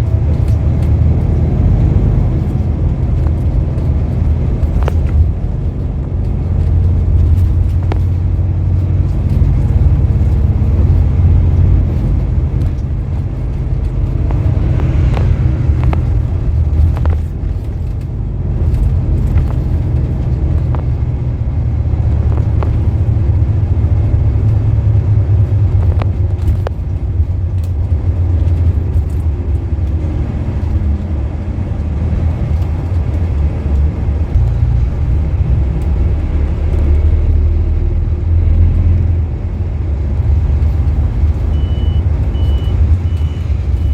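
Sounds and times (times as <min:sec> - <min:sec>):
body rattles and knocks: 0:00.0 - 0:43.9
bus engine and road rumble: 0:00.0 - 0:43.9.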